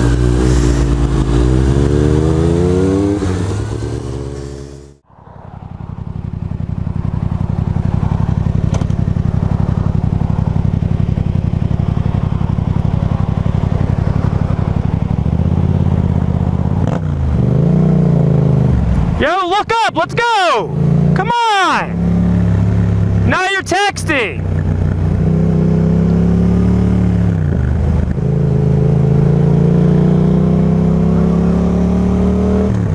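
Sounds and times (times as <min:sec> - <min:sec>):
motorcycle engine accelerating: 0:00.0 - 0:19.2, 0:21.8 - 0:23.3, 0:24.4 - 0:32.9.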